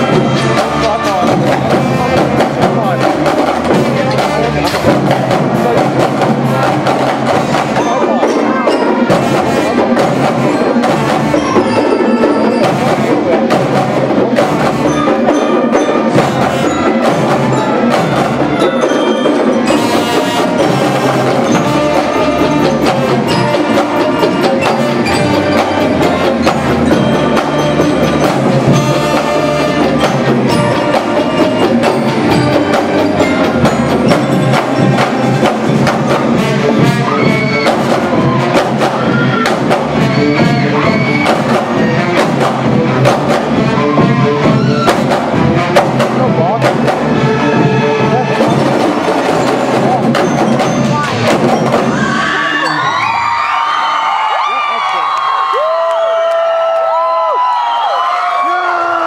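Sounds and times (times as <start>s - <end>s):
mallet percussion: 0.0s - 53.3s
school band playing: 0.0s - 59.0s.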